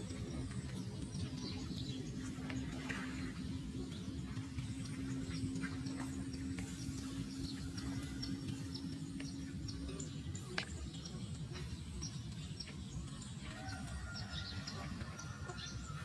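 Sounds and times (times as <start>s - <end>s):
steady low noise: 0.0s - 16.0s.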